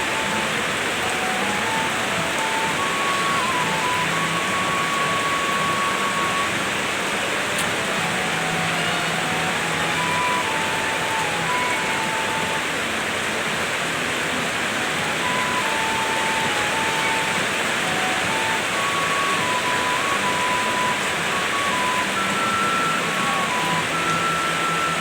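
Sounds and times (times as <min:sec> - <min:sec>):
faint tune of held notes: 0:00.0 - 0:25.0
heavy rain pouring: 0:00.0 - 0:25.0.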